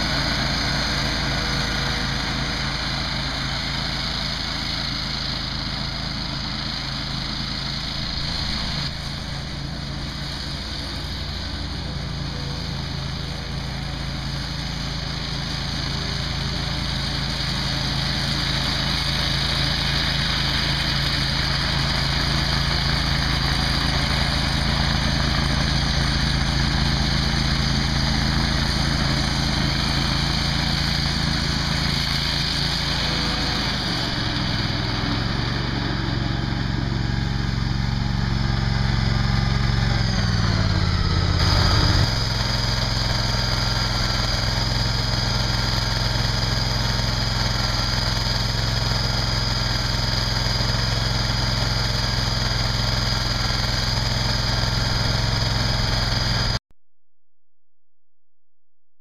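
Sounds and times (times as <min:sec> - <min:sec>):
mower engine running: 0:00.0 - 0:56.6.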